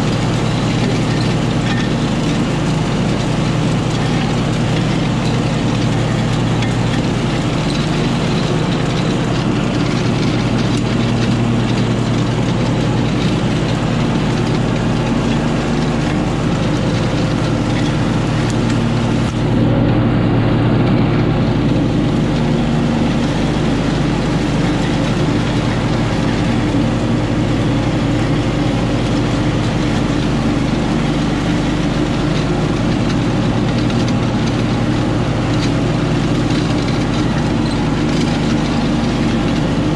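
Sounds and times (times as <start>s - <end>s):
ride-on mower engine mowing grass: 0.0s - 39.9s.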